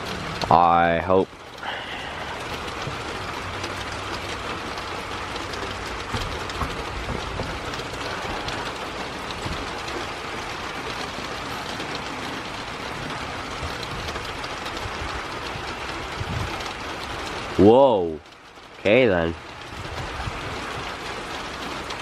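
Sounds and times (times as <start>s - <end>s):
steady rush of rain: 0.0s - 22.0s.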